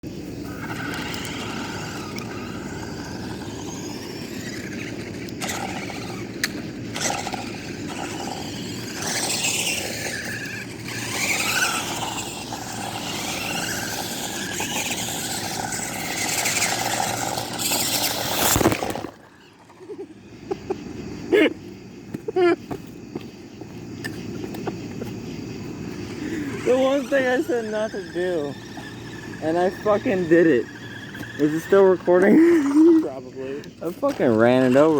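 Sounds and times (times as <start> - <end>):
toy car electric motors whining: 0.1 - 23.0, 23.7 - 34.9.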